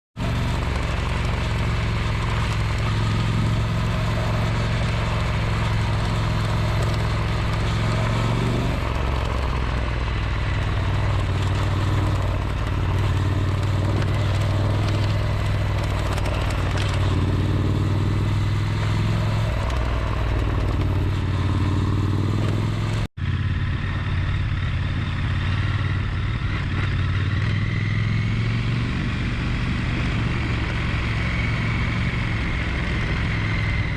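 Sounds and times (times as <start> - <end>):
motorcycle engine idling with rattle: 0.2 - 18.8, 19.4 - 28.3.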